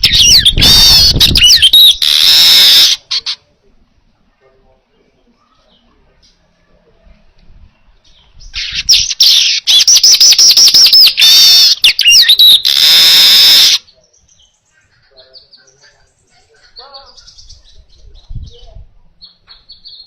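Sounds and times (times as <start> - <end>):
bird singing: 0.0 - 3.4, 4.9 - 20.0.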